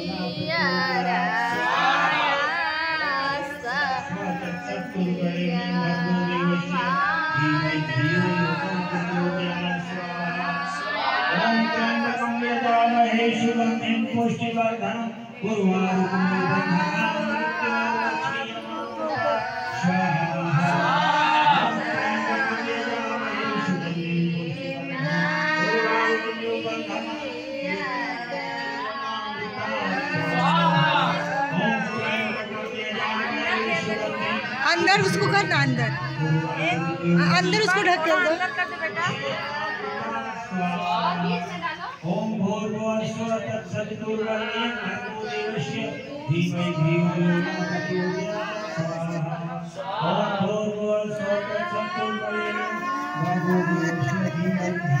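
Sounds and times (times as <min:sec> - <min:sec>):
women singing together: 0:00.0 - 0:14.5, 0:15.4 - 0:55.0.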